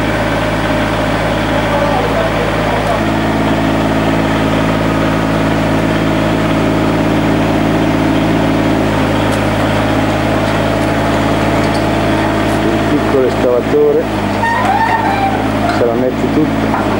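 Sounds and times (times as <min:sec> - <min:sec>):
excavator engine idling: 0:00.0 - 0:16.9.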